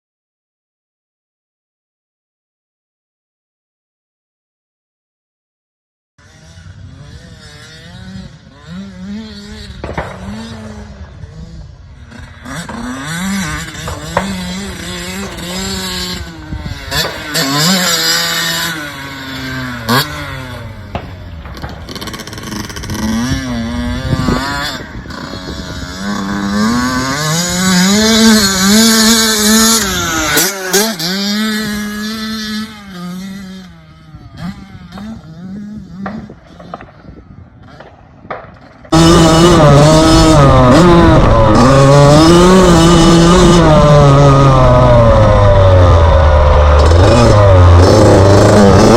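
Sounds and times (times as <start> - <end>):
dirt bike engine revving: 6.2 - 48.9.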